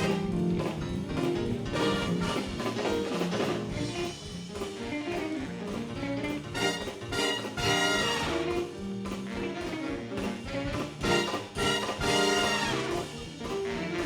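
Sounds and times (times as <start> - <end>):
drum kit: 0.0 - 14.0
guitar: 0.0 - 14.0.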